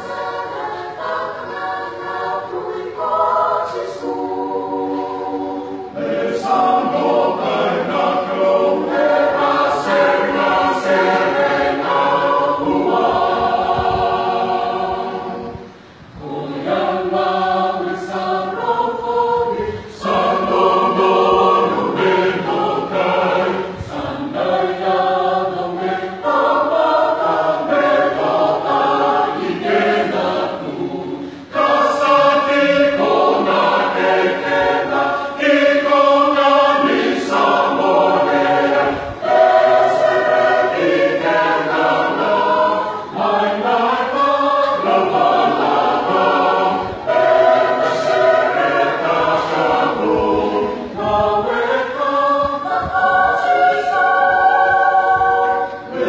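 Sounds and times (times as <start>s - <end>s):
choir singing a hymn unaccompanied: 0.0s - 56.0s.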